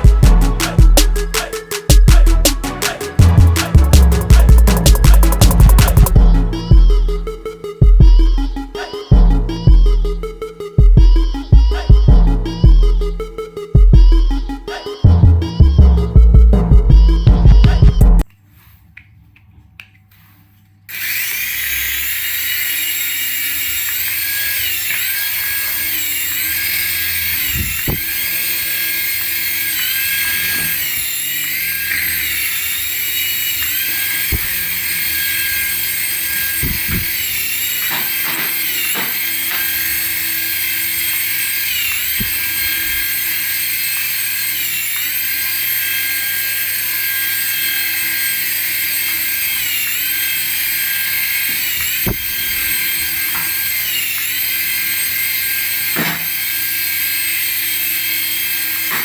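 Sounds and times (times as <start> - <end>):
toy electric motor whining: 0.0 - 16.4, 20.9 - 59.0.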